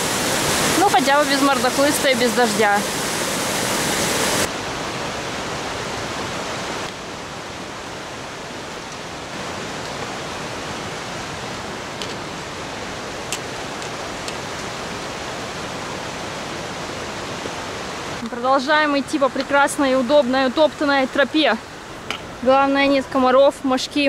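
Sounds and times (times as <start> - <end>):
river rushing over boulders: 0.0 - 24.0.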